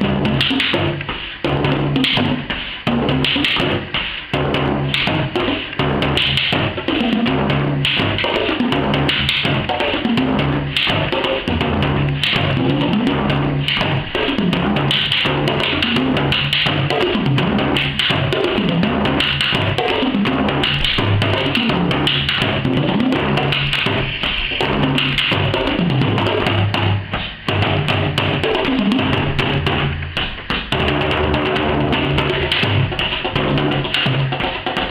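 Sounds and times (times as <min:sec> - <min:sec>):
frame drums played with sticks: 0:00.0 - 0:34.9.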